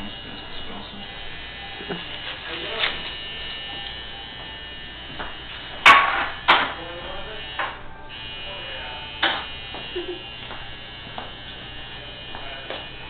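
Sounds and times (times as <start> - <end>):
steady electric buzz: 0.0 - 13.0.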